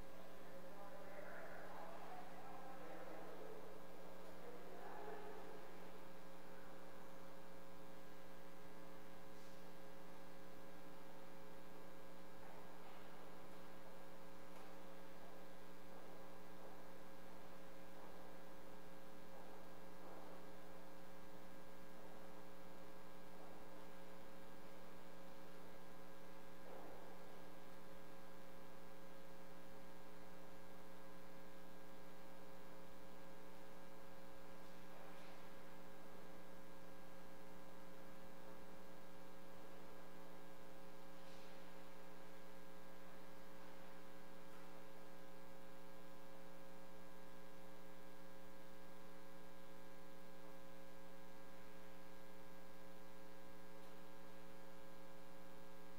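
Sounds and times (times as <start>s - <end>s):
electrical mains hum: 0.0s - 55.9s.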